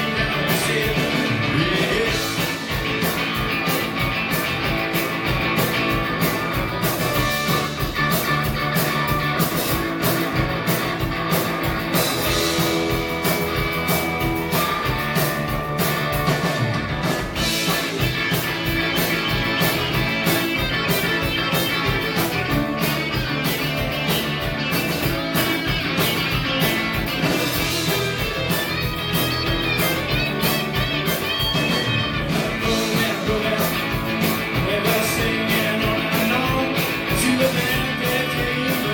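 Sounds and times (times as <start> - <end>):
drums keeping a steady beat: 0.0 - 38.9
electric guitars: 0.0 - 38.9
rock band playing live: 0.0 - 38.9.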